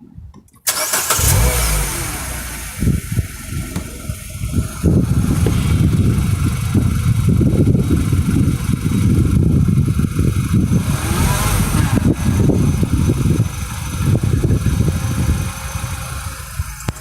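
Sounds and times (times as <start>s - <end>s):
ticking in engine: 0.6s - 17.0s
car engine running: 0.7s - 17.0s.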